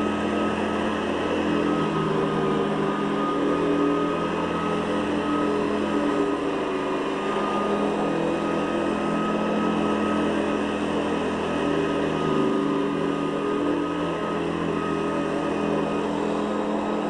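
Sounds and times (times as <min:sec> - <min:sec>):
vacuum cleaner on carpet: 0:00.0 - 0:17.0.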